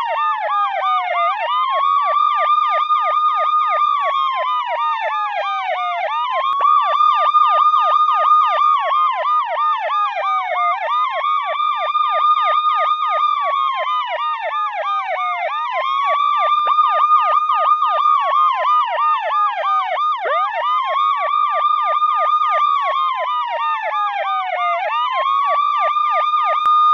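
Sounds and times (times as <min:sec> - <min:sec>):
police siren wailing: 0:00.0 - 0:26.9
rapid siren warble: 0:00.0 - 0:26.9.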